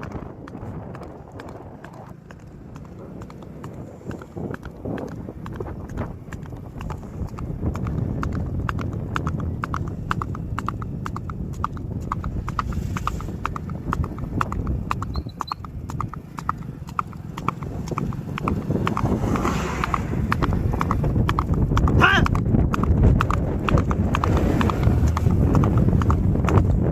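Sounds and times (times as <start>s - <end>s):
horse hooves clip-clopping: 0.0s - 26.9s
low rumble: 0.0s - 26.9s.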